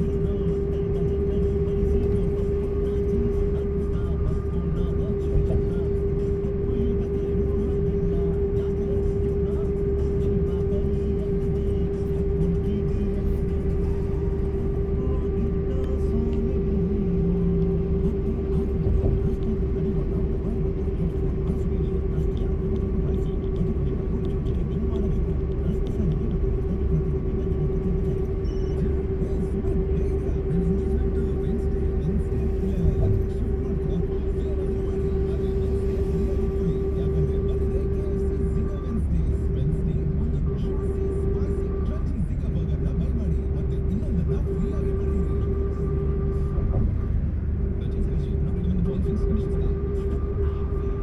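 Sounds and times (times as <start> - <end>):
droning tone: 0.0 - 51.0
road and engine rumble: 0.0 - 51.0.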